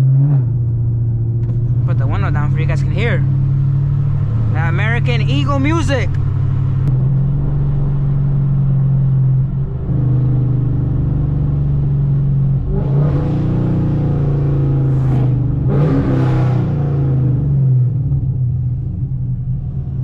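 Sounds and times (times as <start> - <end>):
car exhaust drone and acceleration: 0.0 - 20.0.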